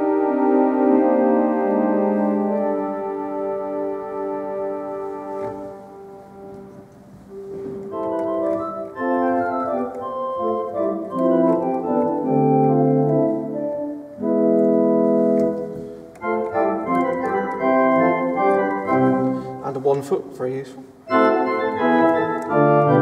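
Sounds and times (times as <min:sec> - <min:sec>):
organ playing sustained chords: 0:00.0 - 0:23.0.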